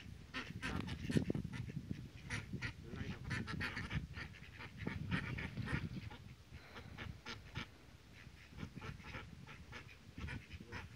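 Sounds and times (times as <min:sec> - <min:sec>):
ducks quacking: 0:00.0 - 0:10.9.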